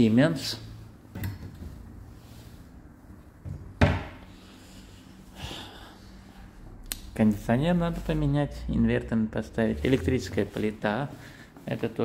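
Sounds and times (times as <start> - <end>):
faint steady hum: 0.0 - 11.8.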